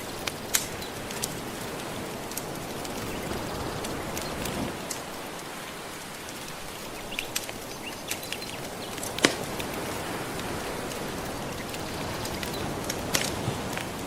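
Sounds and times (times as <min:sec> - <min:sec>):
gentle ocean waves: 0:00.0 - 0:14.0
wood fire crackling: 0:00.0 - 0:14.0.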